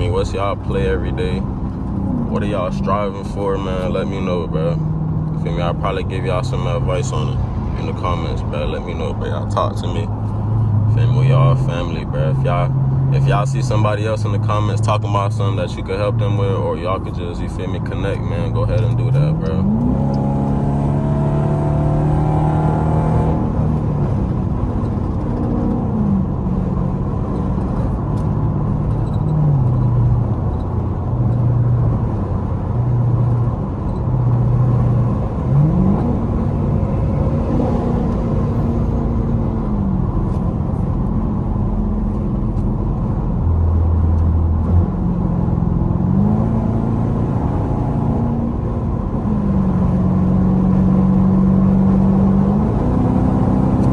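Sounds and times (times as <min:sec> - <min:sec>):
loud car exhaust accelerating: 0:00.0 - 0:53.9.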